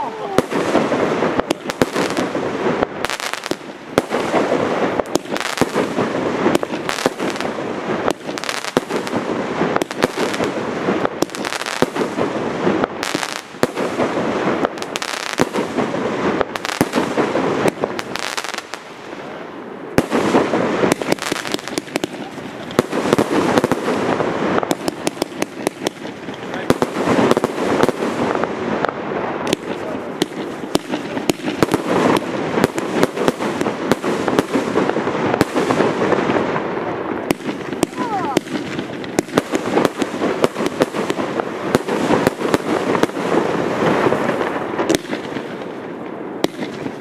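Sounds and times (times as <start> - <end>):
fireworks bursts and bangs: 0.0 - 47.0.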